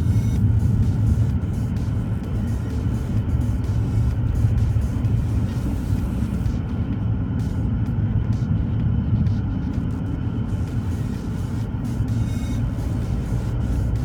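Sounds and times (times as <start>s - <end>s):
diesel engine drone: 0.0s - 14.0s
road rumble: 0.0s - 14.0s.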